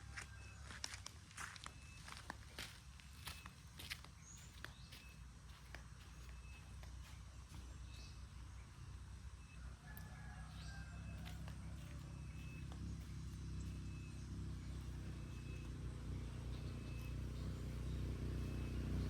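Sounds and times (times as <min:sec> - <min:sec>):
low engine rumble: 0:00.0 - 0:19.0
faint high chirp: 0:01.4 - 0:02.3, 0:03.1 - 0:19.0.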